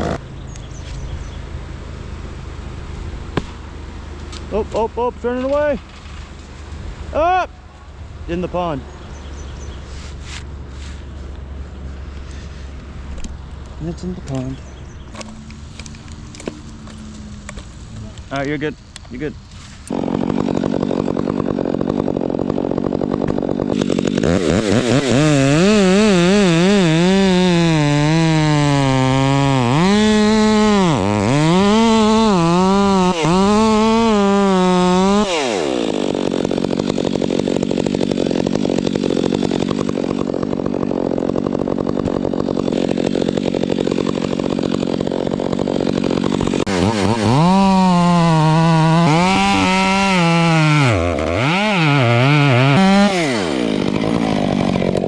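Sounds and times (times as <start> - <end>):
chainsaw cutting wood: 0.0 - 1.0, 11.9 - 55.0.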